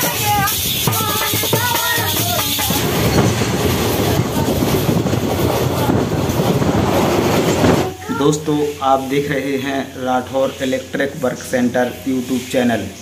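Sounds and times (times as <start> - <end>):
train wheels running on rails: 0.0 - 13.0.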